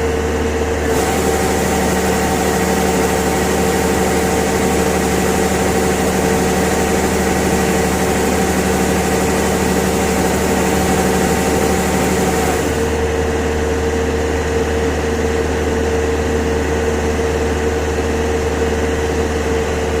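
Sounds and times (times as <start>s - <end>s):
harvesting machine engine running: 0.0s - 20.0s.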